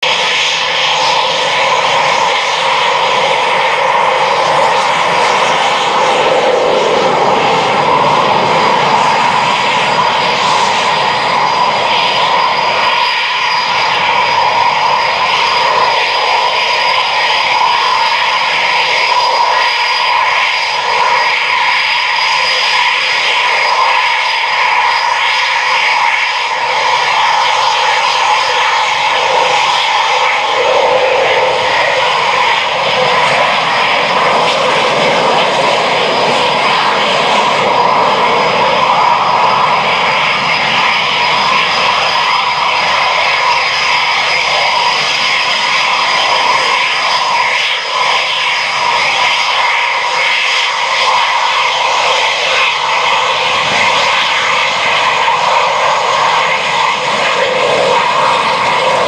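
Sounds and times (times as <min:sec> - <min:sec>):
high-pitched jet whine: 0:00.0 - 0:59.0
jet engines rushing: 0:00.0 - 0:59.0.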